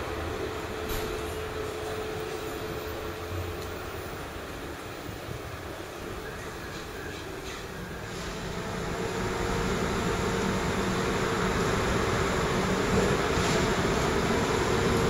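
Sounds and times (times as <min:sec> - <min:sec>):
electric train hum: 0:00.0 - 0:15.0
wheels rumbling on rail: 0:00.0 - 0:15.0.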